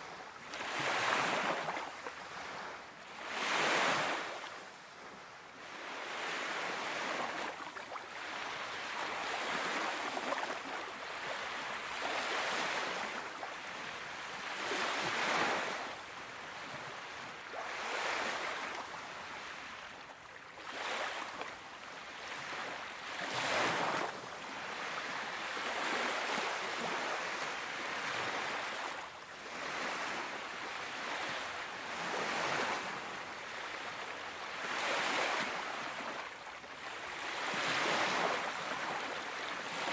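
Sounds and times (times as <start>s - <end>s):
small waves lapping on sandy beach: 0.0s - 39.9s.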